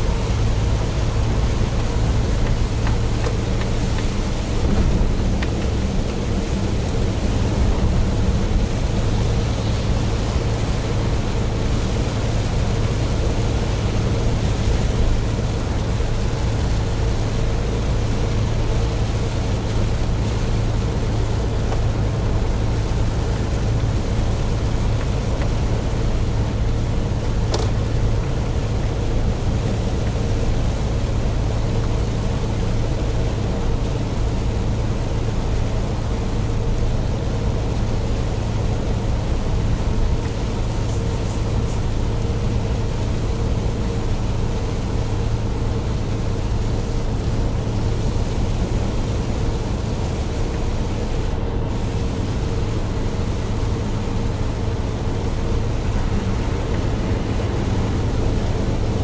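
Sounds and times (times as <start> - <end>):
diesel truck engine drone: 0.0 - 59.0
tyres hissing on wet road: 0.0 - 59.0.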